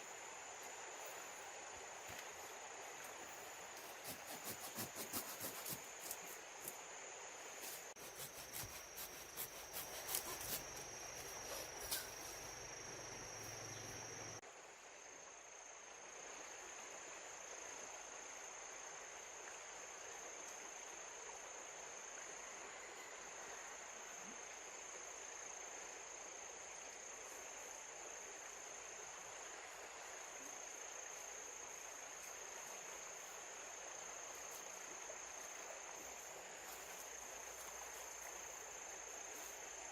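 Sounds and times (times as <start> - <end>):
insects trilling: 0.0 - 14.4, 15.6 - 39.9
background hiss: 0.0 - 39.9.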